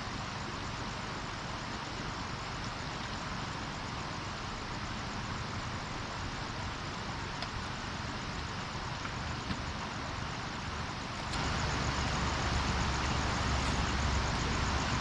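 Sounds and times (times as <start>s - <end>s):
river water rushing: 1.7s - 15.0s.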